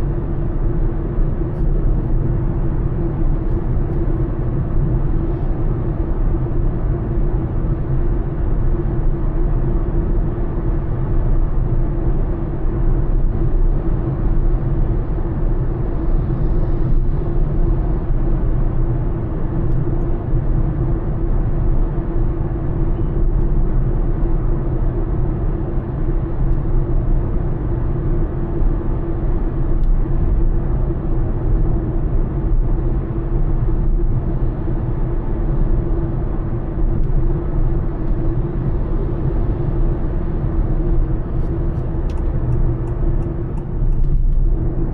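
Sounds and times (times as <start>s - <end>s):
car cruising road rumble: 0.0s - 44.9s
constant hum: 0.0s - 44.9s.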